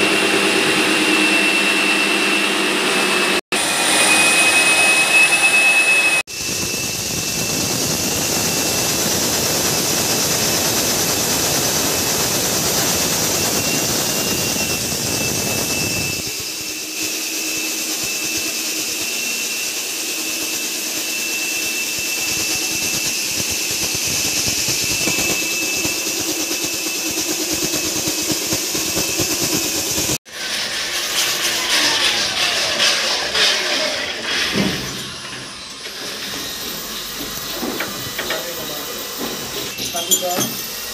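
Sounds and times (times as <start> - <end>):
core drill motor whine: 0.0 - 30.7, 31.4 - 40.9
drill grinding concrete: 0.0 - 40.9.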